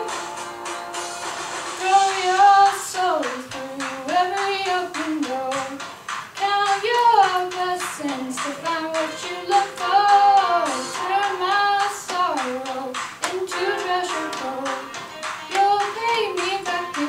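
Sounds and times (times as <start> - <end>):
woman singing: 1.8 - 17.0.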